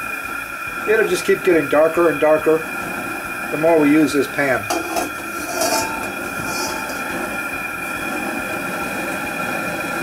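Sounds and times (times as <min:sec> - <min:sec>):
gas burner roaring: 0:00.0 - 0:10.0.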